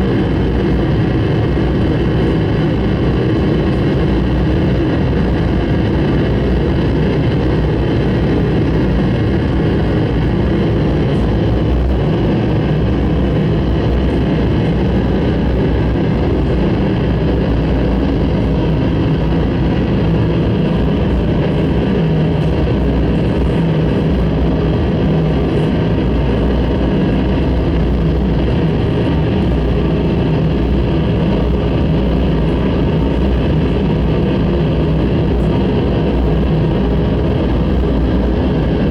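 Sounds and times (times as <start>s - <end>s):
droning noise music: 0.0s - 38.9s.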